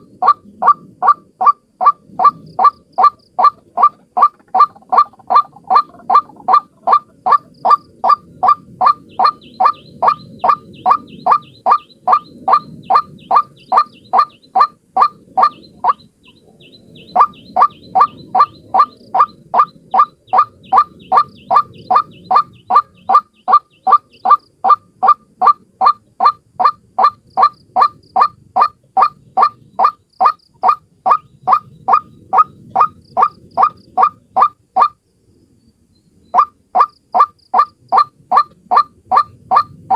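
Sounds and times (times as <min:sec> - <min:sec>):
waterhen calling: 0:00.0 - 0:35.0, 0:36.4 - 0:39.9.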